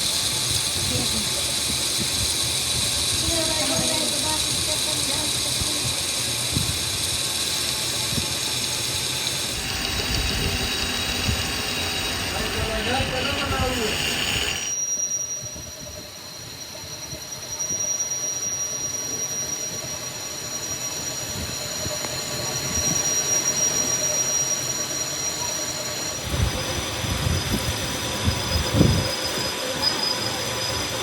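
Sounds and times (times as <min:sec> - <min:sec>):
high-pitched metallic squeal: 0:00.0 - 0:31.0.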